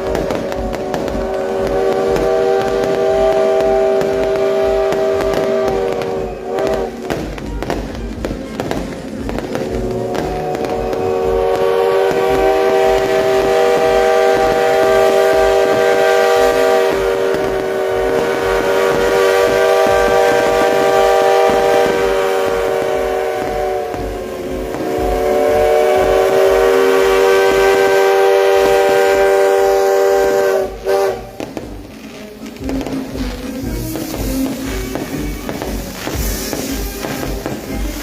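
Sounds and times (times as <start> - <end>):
bangs and crackles: 0.0 - 38.0
long held music chords: 0.0 - 38.0.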